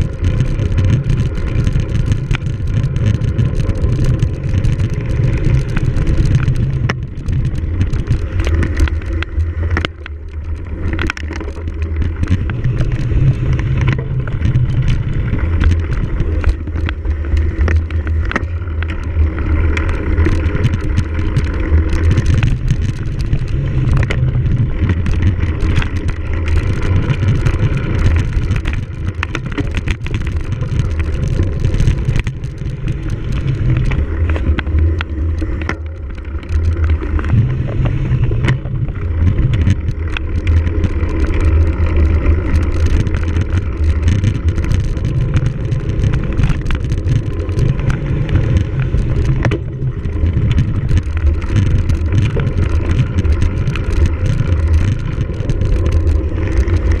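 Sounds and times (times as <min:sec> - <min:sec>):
bike rattling and clicking: 0:00.0 - 0:57.0
wind rumbling on microphone: 0:00.0 - 0:57.0.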